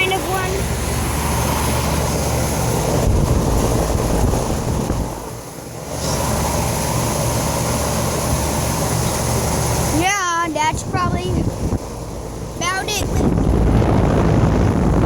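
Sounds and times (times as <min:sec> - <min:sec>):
air conditioner hum: 0:00.0 - 0:15.0
fans rushing: 0:00.0 - 0:15.0.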